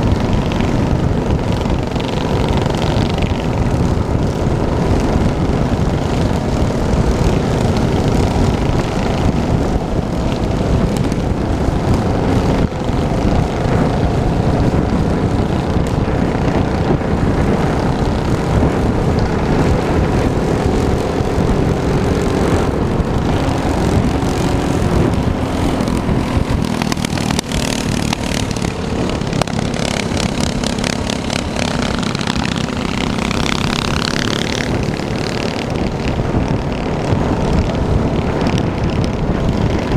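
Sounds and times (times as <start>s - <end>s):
small motorbike engine running: 0.0s - 39.9s
wind noise rumble: 0.0s - 39.9s.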